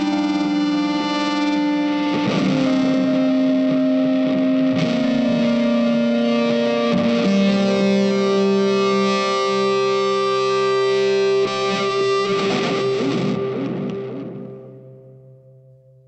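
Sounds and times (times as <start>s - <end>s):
distorted electric guitar music: 0.0s - 16.0s.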